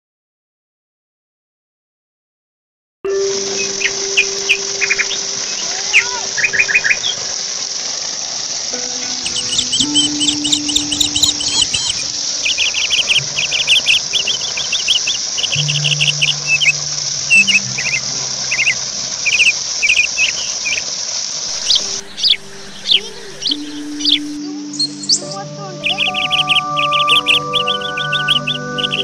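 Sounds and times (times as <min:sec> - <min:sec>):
birds chirping: 0:03.1 - 0:07.9, 0:08.7 - 0:29.0
low steady tones: 0:03.1 - 0:20.6, 0:21.5 - 0:29.0
crickets droning: 0:03.1 - 0:29.0.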